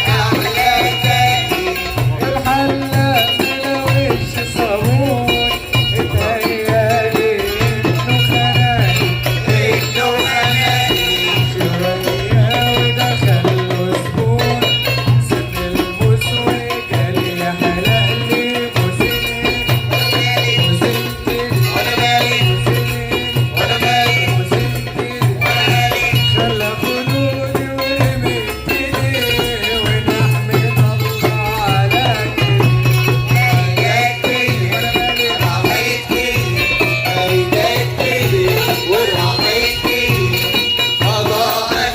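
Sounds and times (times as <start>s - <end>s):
hand percussion beat: 0.0s - 41.9s.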